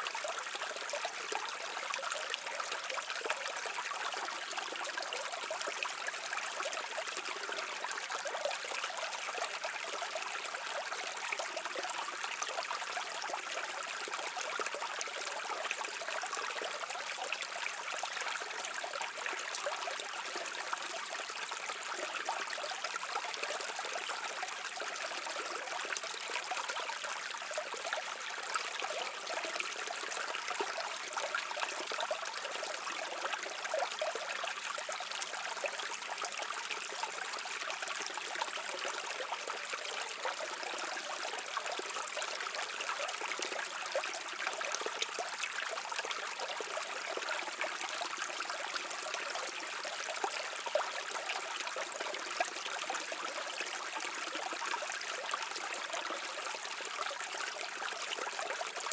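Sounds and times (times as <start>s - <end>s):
stream trickling over rocks: 0.0s - 58.9s.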